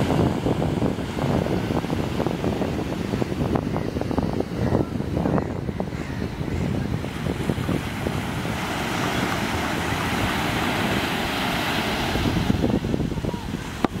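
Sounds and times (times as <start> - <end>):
small waves washing on sand: 0.0 - 14.0
wind buffeting microphone: 0.0 - 14.0.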